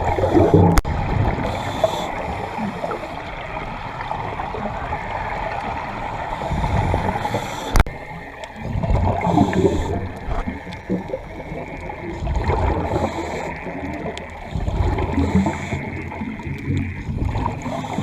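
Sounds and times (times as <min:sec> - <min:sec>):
underwater air bubbles gurgling: 0:00.0 - 0:18.0.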